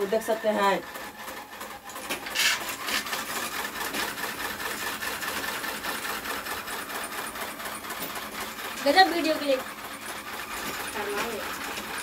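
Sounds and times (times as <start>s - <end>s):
motor clatter and whirr: 0.0s - 12.0s.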